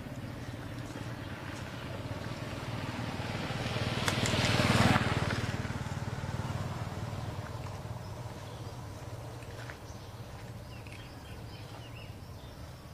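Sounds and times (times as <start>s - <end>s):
vehicle engine passing by: 0.0s - 12.9s.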